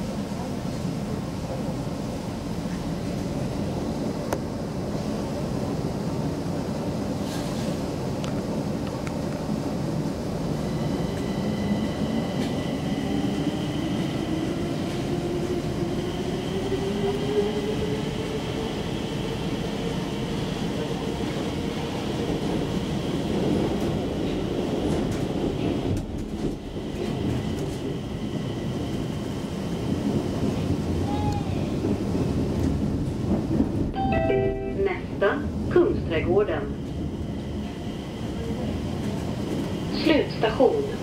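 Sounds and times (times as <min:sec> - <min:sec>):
train rail rumble: 0:00.0 - 0:41.0.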